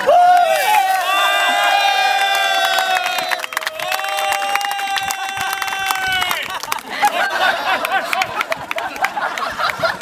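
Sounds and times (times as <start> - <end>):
people clapping rapidly: 1.8 - 10.0.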